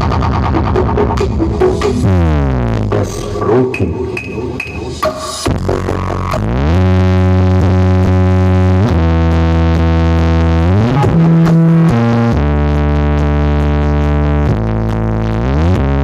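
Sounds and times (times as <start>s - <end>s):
loud synthesizer bass music: 0.0s - 16.0s.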